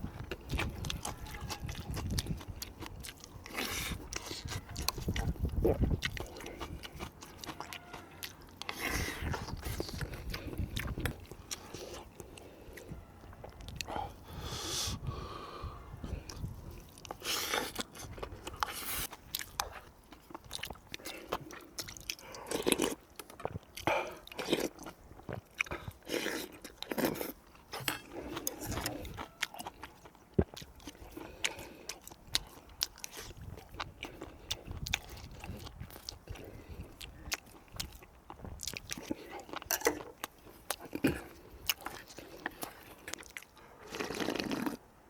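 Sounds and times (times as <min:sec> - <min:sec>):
man chewing food: 0:00.0 - 0:45.0.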